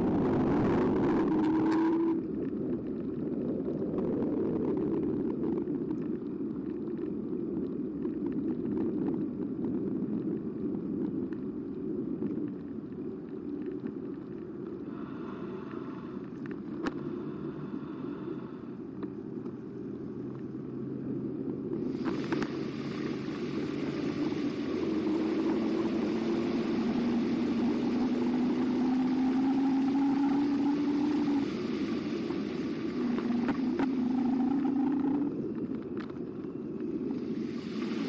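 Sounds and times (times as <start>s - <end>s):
wind rushing on microphone: 0.0s - 18.3s, 21.4s - 38.0s
bike rolling rumble: 0.0s - 38.0s.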